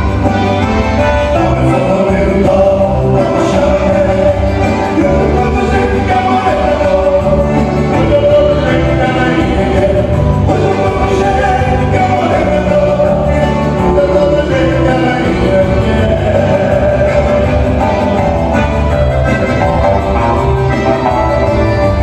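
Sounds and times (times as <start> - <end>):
accordion: 0.0 - 22.0
electric bass: 0.0 - 22.0
keyboard playing: 0.0 - 22.0
man singing: 0.0 - 22.0.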